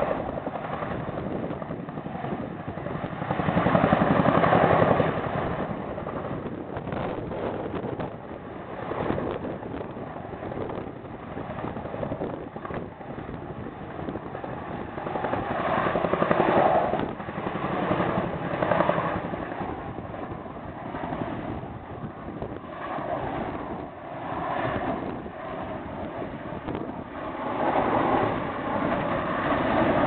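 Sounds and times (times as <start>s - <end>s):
helicopter rotor blades beating: 0.0s - 30.0s
turbine whine: 0.0s - 30.0s.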